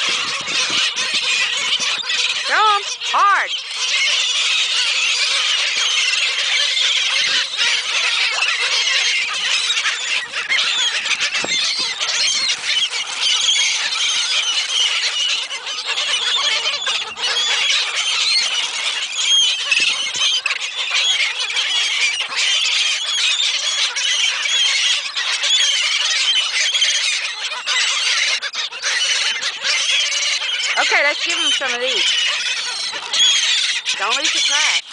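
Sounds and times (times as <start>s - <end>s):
seagulls calling: 0.0s - 34.9s.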